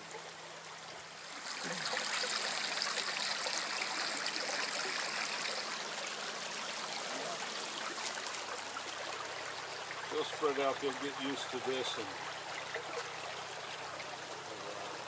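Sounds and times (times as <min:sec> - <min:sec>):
creek water running over stones: 0:00.0 - 0:15.0.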